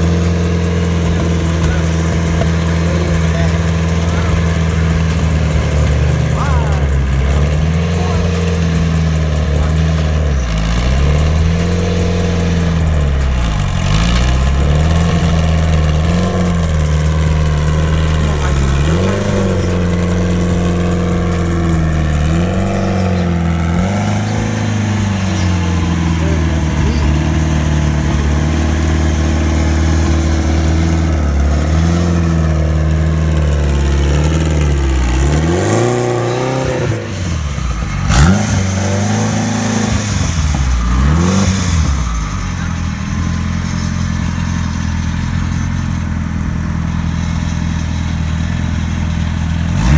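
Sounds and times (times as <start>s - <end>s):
car engine idling with throttle blips: 0.0s - 49.9s.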